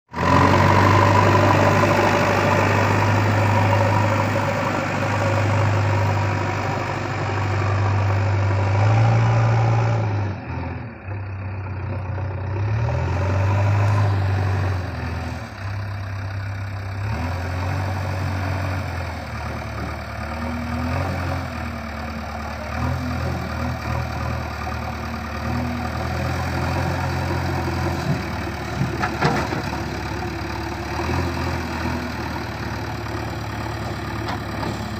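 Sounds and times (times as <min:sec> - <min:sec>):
diesel engine revving: 0:00.1 - 0:34.9.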